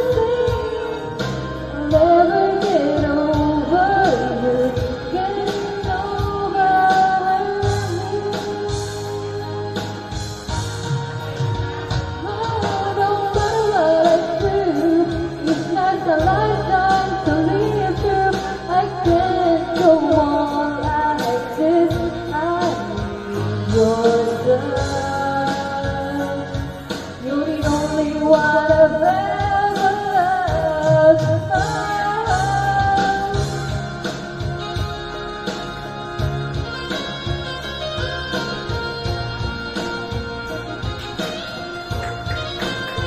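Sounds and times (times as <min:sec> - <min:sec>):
karaoke backing track: 0:00.0 - 0:43.0
woman singing pop ballad: 0:00.0 - 0:43.0.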